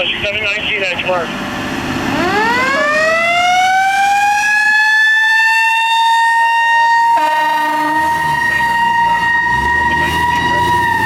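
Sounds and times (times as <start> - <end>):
mechanical siren wailing: 2.1 - 11.0.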